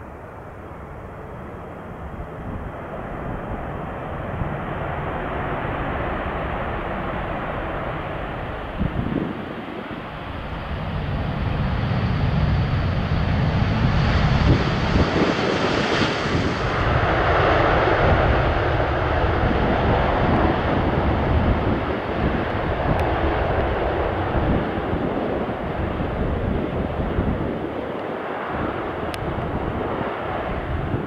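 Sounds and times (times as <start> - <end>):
jet engines roaring on landing: 0.0 - 31.0.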